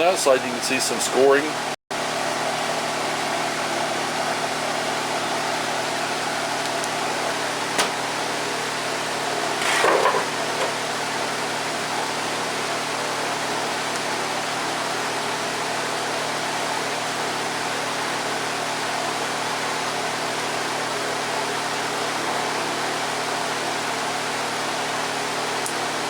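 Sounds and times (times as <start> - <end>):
electric fan running: 0.0 - 26.0.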